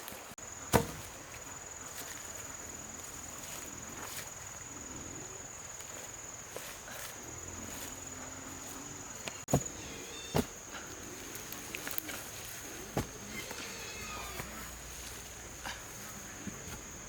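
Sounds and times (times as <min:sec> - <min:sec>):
high-pitched insect call: 0:00.4 - 0:15.3.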